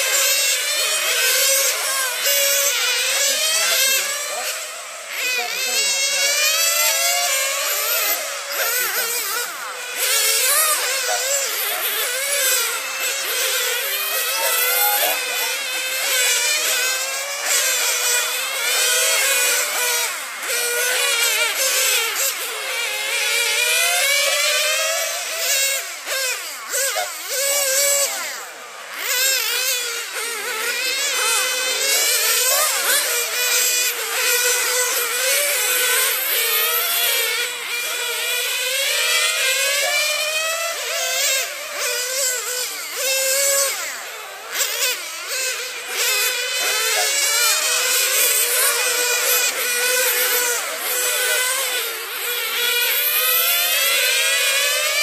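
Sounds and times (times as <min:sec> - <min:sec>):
rc cars high-pitched motor buzz: 0:00.0 - 0:55.0.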